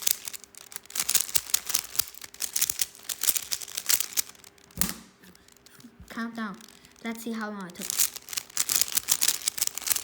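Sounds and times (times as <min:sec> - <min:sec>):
plastic cube clicking: 0:00.0 - 0:05.0, 0:06.6 - 0:10.0.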